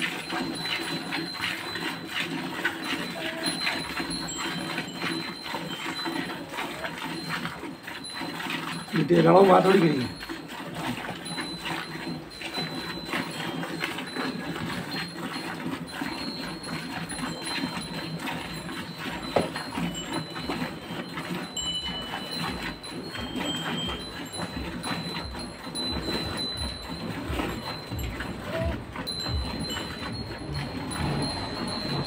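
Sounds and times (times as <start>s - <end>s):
milk squirting into metal bucket: 0.0s - 32.0s.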